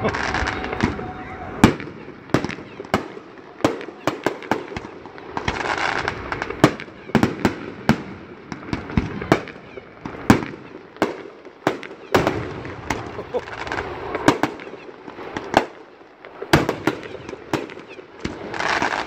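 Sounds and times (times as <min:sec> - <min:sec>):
fireworks bursting: 0:00.0 - 0:19.0
fireworks hiss: 0:00.0 - 0:19.0.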